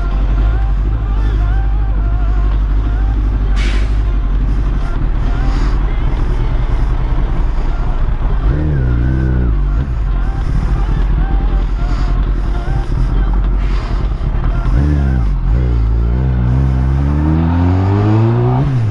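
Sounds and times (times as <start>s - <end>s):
wind rumble on microphone: 0.0s - 16.9s
motorcycle engine: 0.0s - 18.9s.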